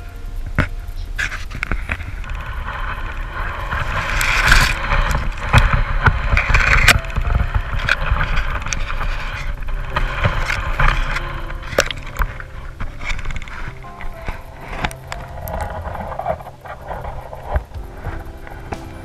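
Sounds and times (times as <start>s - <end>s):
camera handling rumble: 0.6s - 18.9s
stems scraping camera: 0.6s - 19.0s.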